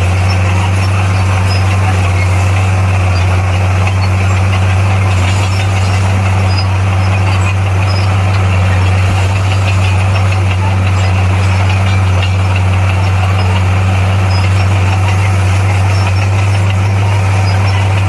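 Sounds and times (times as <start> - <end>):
diesel engine deep drone: 0.0 - 18.0.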